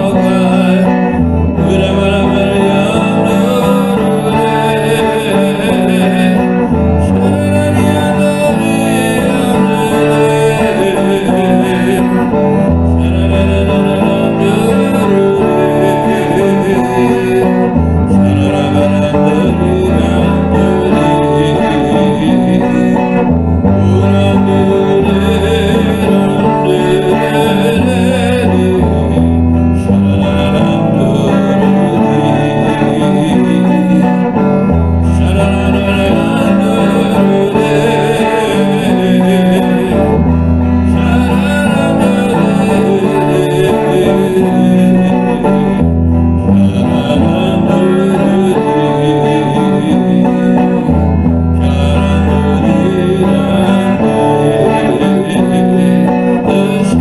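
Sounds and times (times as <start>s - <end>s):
held bass notes: 0.0s - 55.0s
electric guitar melody: 0.0s - 57.0s.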